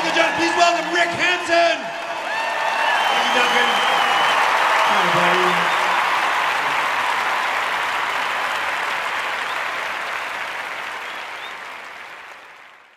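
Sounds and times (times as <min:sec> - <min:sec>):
large audience applauding: 0:00.0 - 0:12.9.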